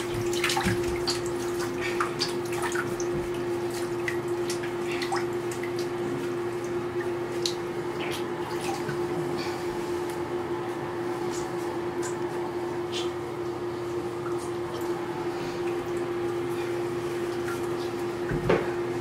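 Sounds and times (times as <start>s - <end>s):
water splashing in bathtub: 0.0s - 10.2s, 11.2s - 18.8s
steady hum: 0.0s - 19.0s.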